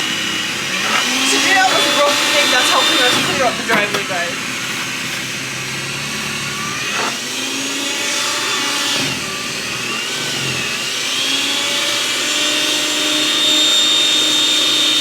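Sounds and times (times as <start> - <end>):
electric snow blower whining: 0.0 - 15.0.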